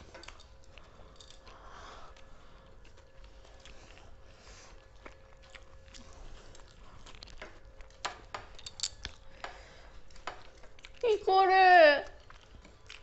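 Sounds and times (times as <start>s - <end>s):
person chewing and crunching food: 0.0s - 11.4s, 12.0s - 13.0s.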